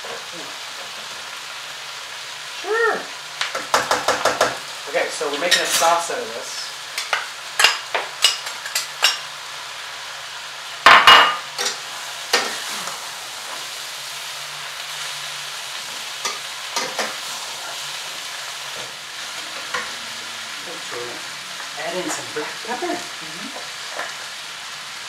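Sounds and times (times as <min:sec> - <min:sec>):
stir-fry sizzling in a pan: 0:00.0 - 0:25.0.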